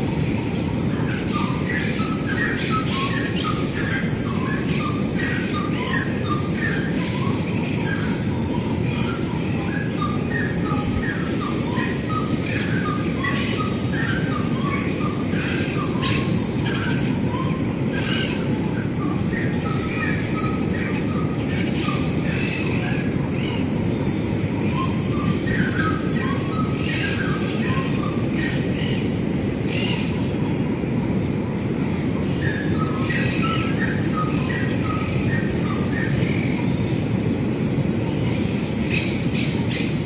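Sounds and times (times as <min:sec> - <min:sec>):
birds chirping: 0:00.1 - 0:40.0.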